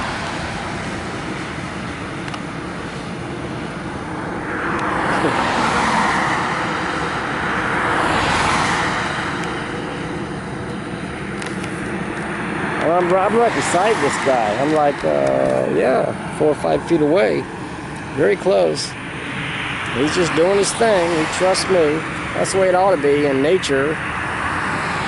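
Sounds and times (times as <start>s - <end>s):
road traffic rushing: 0.0s - 25.0s
vehicles passing: 0.0s - 25.0s.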